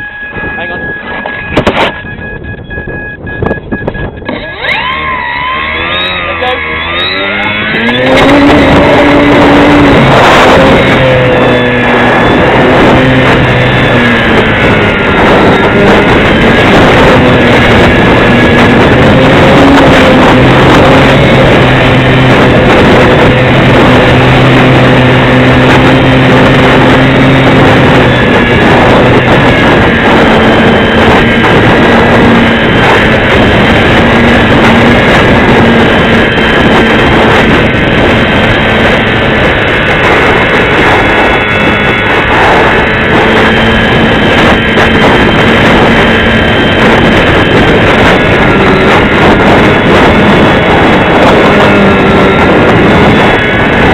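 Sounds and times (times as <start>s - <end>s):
wind buffeting microphone: 0.0s - 53.9s
model plane motor whine: 3.8s - 53.9s.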